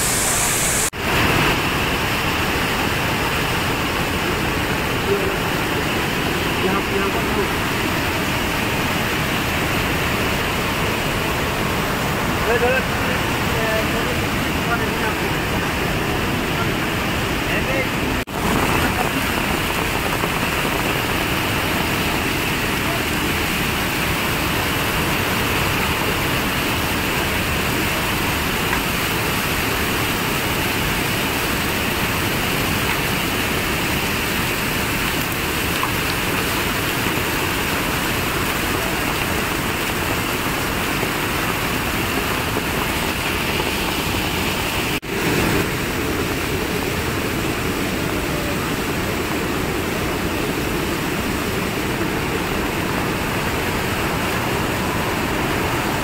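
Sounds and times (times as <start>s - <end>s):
river torrent rushing over rocks: 0.0s - 56.0s.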